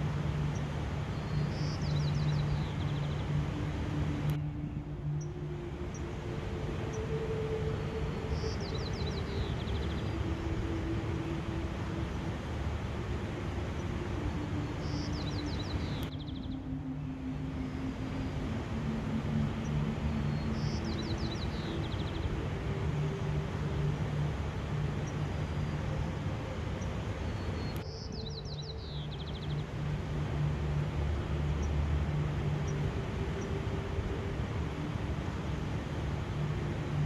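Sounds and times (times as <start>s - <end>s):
faint low hum: 0.0s - 37.0s
songbird singing: 0.0s - 37.0s
steady rushing outdoor noise: 0.0s - 37.0s.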